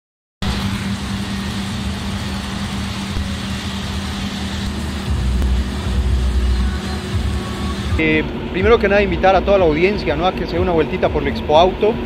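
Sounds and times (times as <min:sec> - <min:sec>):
mechanical hum: 0:00.4 - 0:12.0.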